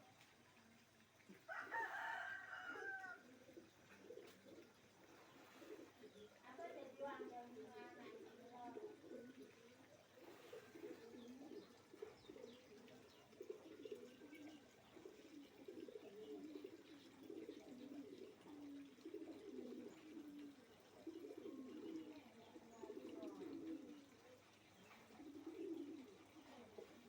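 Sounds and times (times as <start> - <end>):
doves cooing: 0.0 - 27.0
small birds chirping: 3.6 - 27.0.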